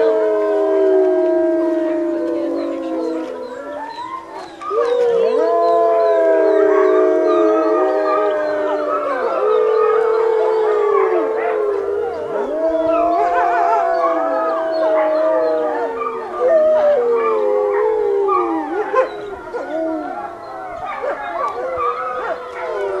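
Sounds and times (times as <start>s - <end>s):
wolves howling: 0.0s - 23.0s.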